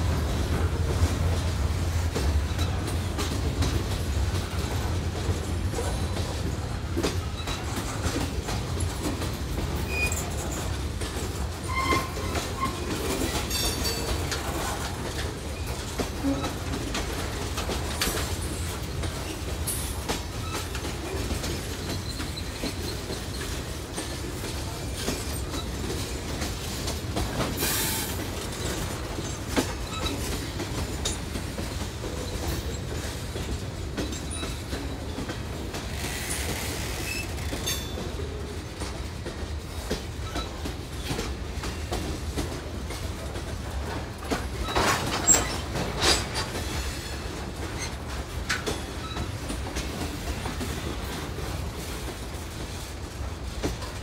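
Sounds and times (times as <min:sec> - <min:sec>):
freight train cars rumbling past: 0:00.0 - 0:54.0.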